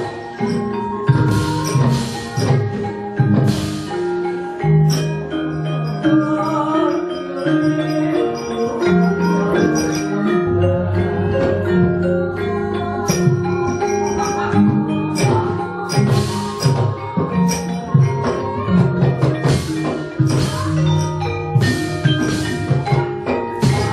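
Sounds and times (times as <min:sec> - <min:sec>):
gamelan metallophones ringing: 0:00.0 - 0:23.9.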